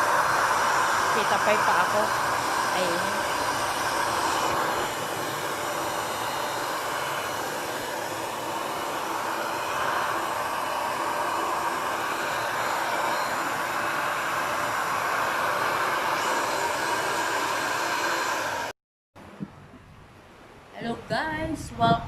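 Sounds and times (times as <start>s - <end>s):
stick vacuum cleaner running: 0.0s - 18.8s.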